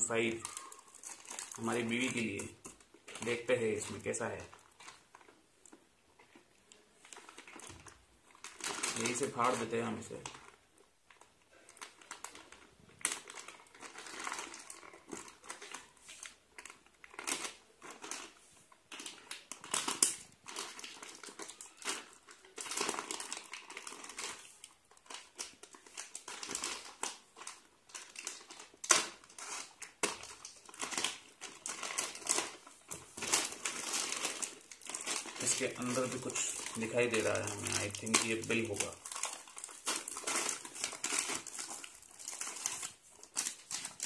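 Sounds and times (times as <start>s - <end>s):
plastic bag crinkling: 0.0s - 44.0s
plastic tearing: 0.0s - 44.0s.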